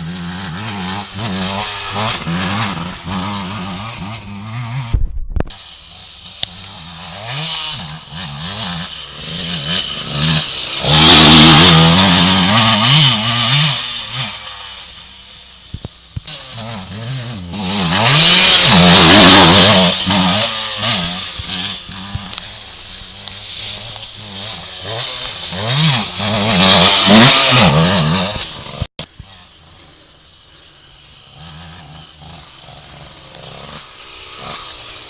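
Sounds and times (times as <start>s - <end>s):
motocross bike engine revving: 0.0s - 35.0s.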